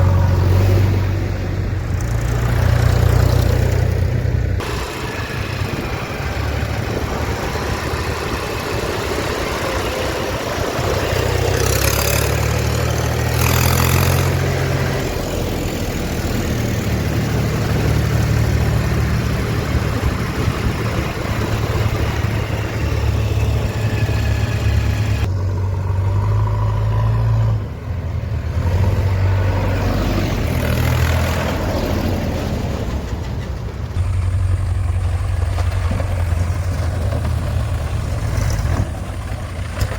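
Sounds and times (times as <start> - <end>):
backhoe loader engine: 0.0 - 39.9
tractor diesel engine: 0.0 - 39.9.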